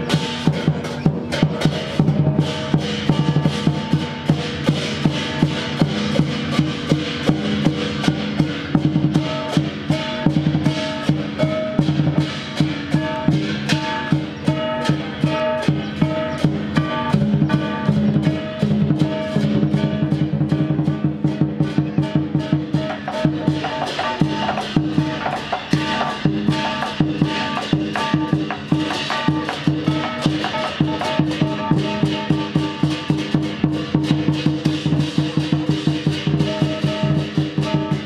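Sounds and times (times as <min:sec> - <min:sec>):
cymbals and gongs clashing: 0:00.0 - 0:38.0
large drum beaten fast: 0:00.0 - 0:38.0.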